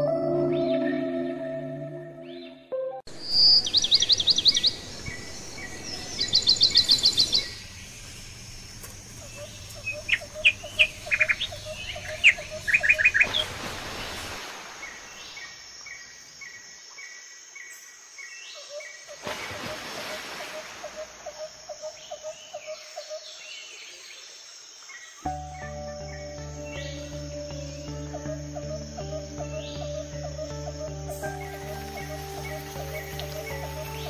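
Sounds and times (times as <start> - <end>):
birds chirping: 2.2 - 16.6, 20.2 - 34.0.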